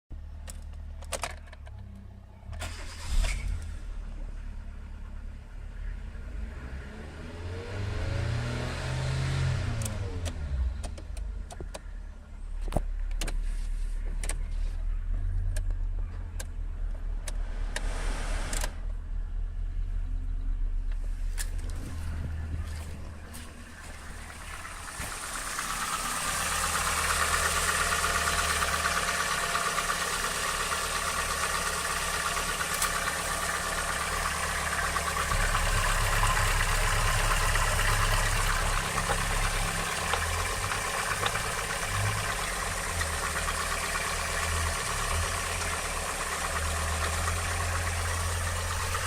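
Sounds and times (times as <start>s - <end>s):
car engine idling and revving: 0.1s - 49.0s.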